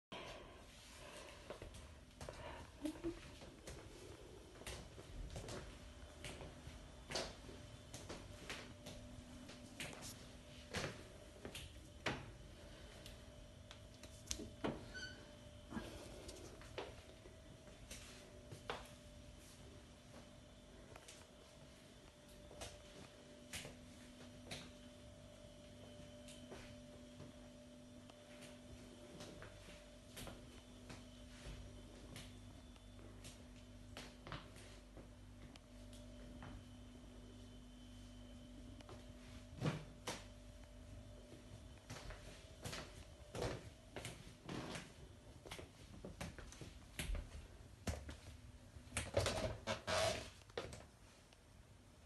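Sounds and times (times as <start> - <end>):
faint steady hum: 0.1 - 52.0.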